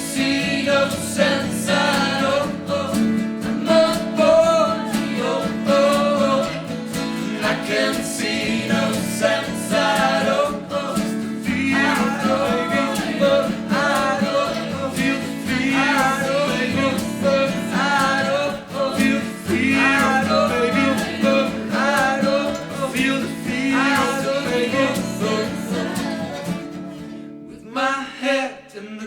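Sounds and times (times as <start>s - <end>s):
acoustic guitar rock song: 0.0s - 28.6s.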